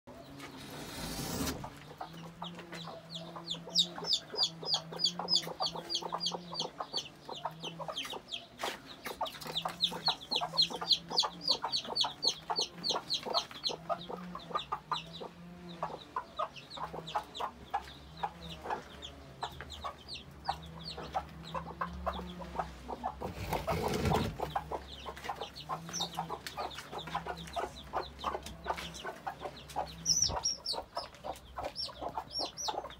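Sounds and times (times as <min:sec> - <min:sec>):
chicks peeping: 0:00.1 - 0:32.9
hens clucking: 0:00.1 - 0:32.9.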